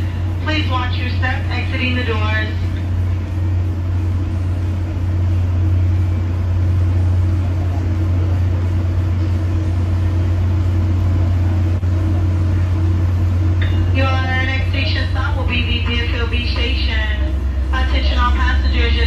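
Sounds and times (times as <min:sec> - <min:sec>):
train low hum: 0:00.0 - 0:19.0.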